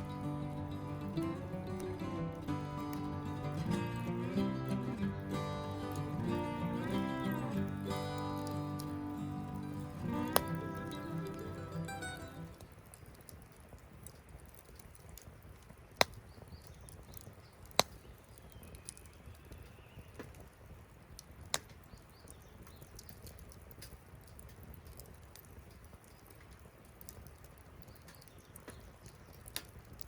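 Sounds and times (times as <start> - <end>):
fire crackling: 0.0 - 30.0
sharp pops of fire: 0.0 - 30.0
wood fire rumbling: 0.0 - 30.0.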